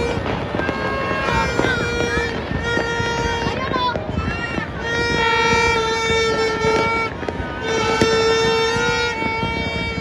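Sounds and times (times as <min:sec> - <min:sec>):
firework pops: 0:00.0 - 0:10.0
horn blowing long blasts: 0:00.0 - 0:10.0.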